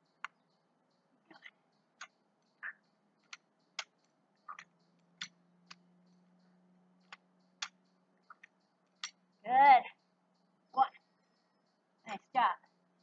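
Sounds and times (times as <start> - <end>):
high chirp: 0.0 - 13.0
low steady hum: 0.0 - 13.0.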